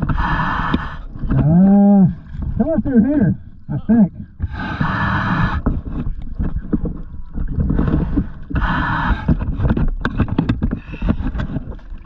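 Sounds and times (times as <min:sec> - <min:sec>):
rumble: 0:00.0 - 0:12.0
water sloshing and splashing: 0:00.0 - 0:12.0.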